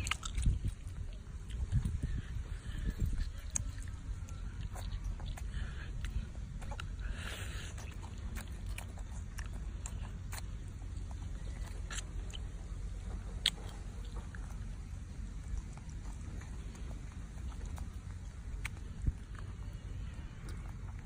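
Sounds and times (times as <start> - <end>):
low rumble: 0.0 - 21.0
monkey chewing fruit: 0.0 - 21.0.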